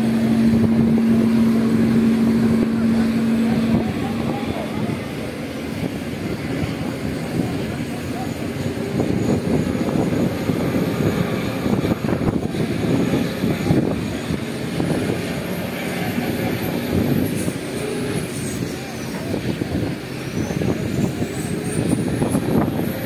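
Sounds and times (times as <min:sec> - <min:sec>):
boat engines droning: 0:00.0 - 0:23.0.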